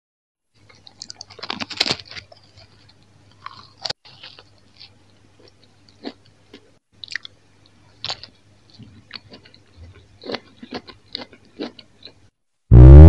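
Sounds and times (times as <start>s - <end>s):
crunchy chewing: 0.6s - 12.3s.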